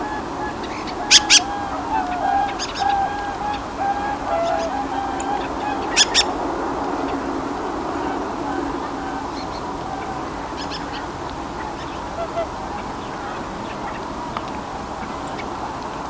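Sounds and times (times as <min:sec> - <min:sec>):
chatter of wavering bird calls: 0:00.0 - 0:14.1.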